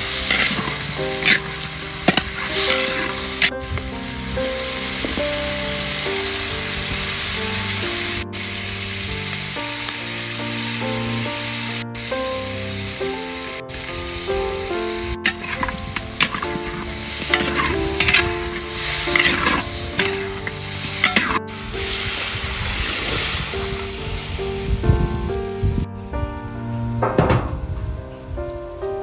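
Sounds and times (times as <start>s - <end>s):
meat frying in a wok: 0.0s - 24.4s
background music of held notes: 0.0s - 29.0s.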